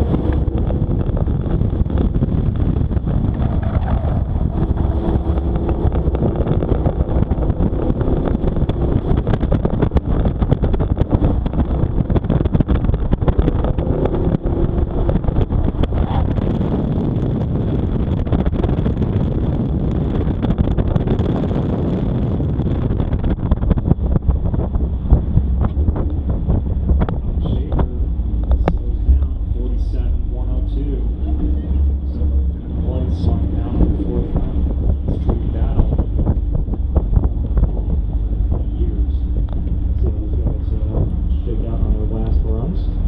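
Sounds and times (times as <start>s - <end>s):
car engine under load: 0.0s - 43.0s
wind rushing over microphone: 0.0s - 43.0s.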